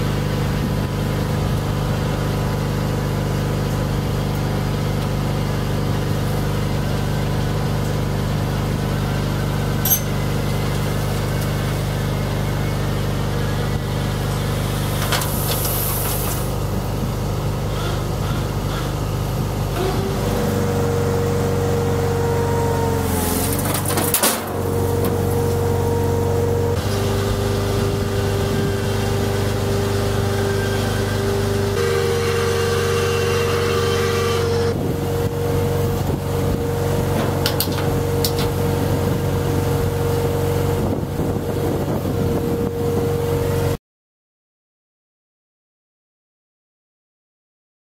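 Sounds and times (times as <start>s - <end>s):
garden tractor engine running: 0.0s - 43.8s.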